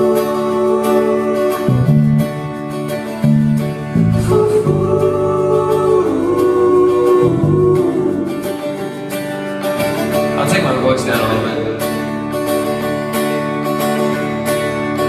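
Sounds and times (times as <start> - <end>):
guitar chords: 0.0 - 15.0
live band playing: 0.0 - 15.0.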